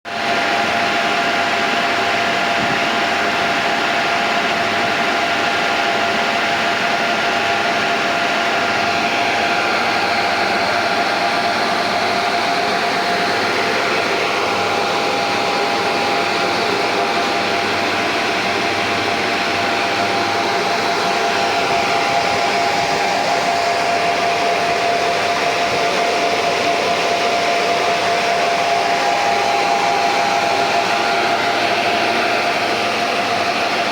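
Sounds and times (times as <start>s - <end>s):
steady machine whine: 0.1s - 33.9s
whooshing machine noise: 0.1s - 33.9s.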